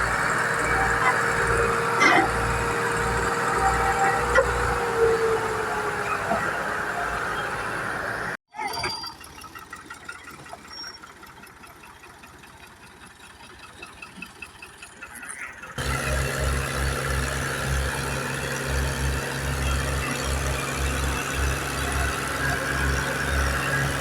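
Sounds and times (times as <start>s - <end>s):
tractor diesel engine chugging: 0.0s - 24.0s.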